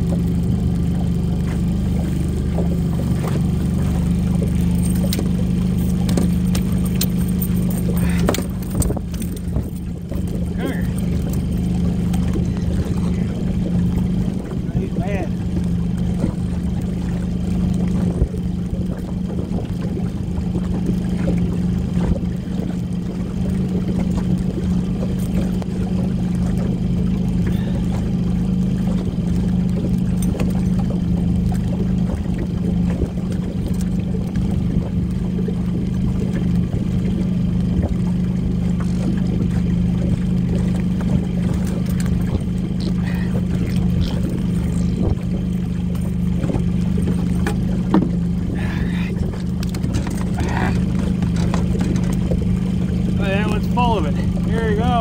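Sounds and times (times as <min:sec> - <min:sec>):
boat motor humming: 0:00.0 - 0:55.0.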